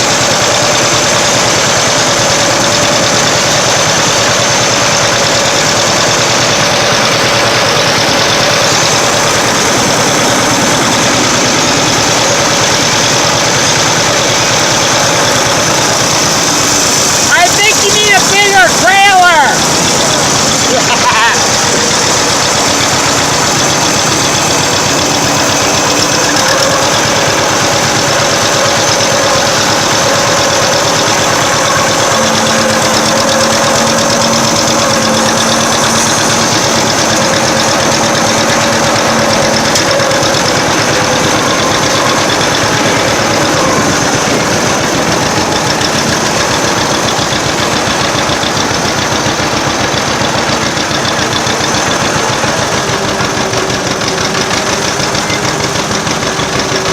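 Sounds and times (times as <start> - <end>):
engine with fast knocking beat: 0.0 - 56.9.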